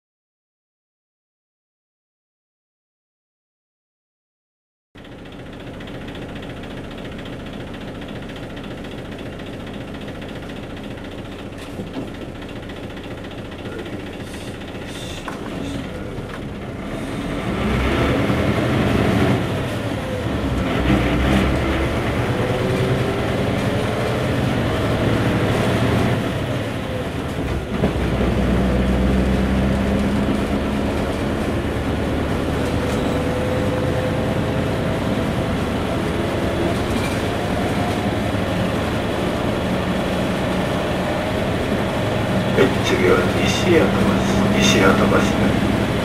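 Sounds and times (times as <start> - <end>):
bus engine accelerating: 5.0 - 46.0.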